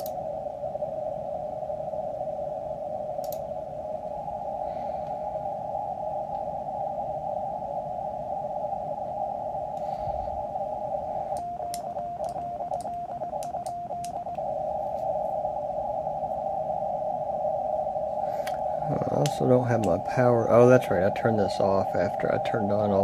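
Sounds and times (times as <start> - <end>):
radio receiver hiss: 0.0 - 23.0.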